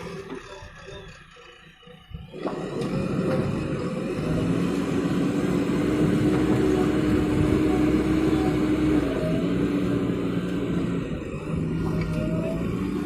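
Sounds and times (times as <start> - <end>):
diesel engine revving under load: 0.0 - 13.0.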